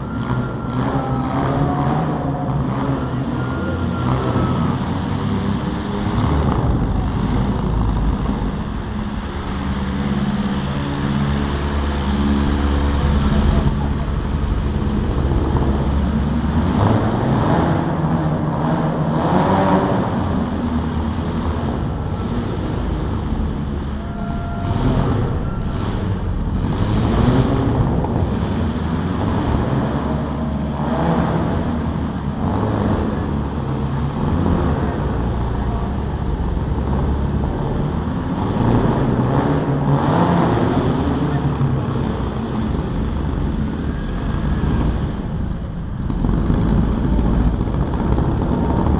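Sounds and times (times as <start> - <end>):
car engines revving hard: 0.0 - 48.9.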